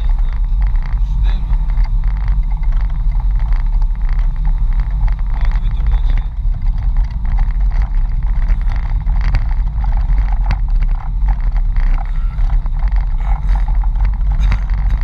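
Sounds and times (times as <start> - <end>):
engine low rumble: 0.0 - 15.0
rattles and knocks: 0.0 - 15.0.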